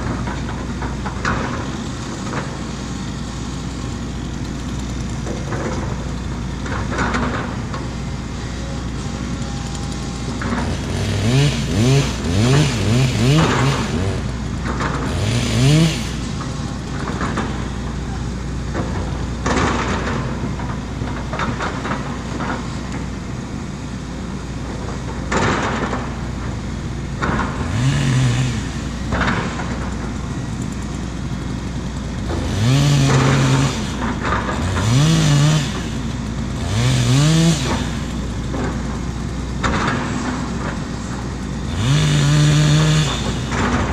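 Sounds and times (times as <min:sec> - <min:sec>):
excavator diesel engine revving: 0:00.0 - 0:43.9.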